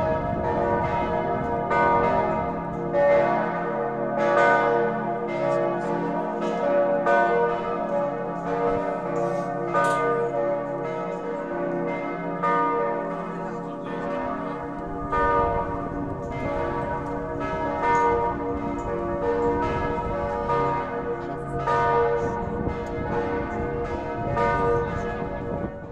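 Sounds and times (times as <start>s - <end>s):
church bells pealing: 0.0s - 25.9s.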